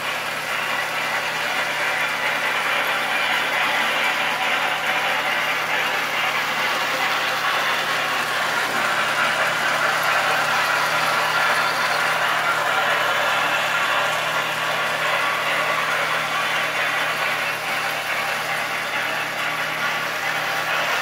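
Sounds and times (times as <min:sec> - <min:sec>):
train running on a record: 0:00.0 - 0:21.0.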